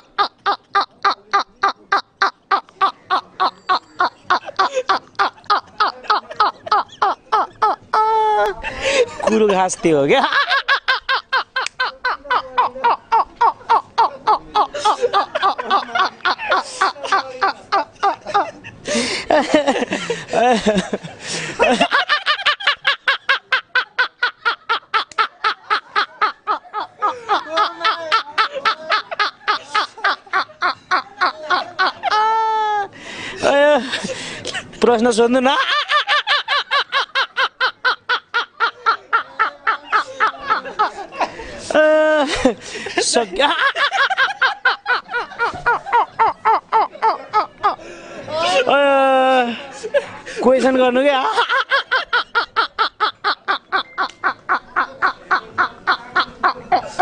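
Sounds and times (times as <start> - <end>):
lower voice laughing: 0.0 - 9.4, 10.2 - 34.0, 35.5 - 42.6, 43.4 - 49.6, 51.2 - 57.0
man laughing hard: 0.0 - 9.6, 10.2 - 34.0, 35.5 - 49.6.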